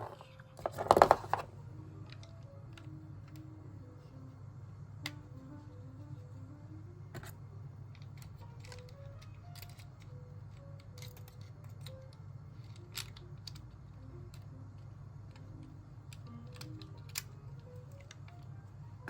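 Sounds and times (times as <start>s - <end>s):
soft background music: 0.0s - 19.0s
steady low hum: 0.0s - 19.0s.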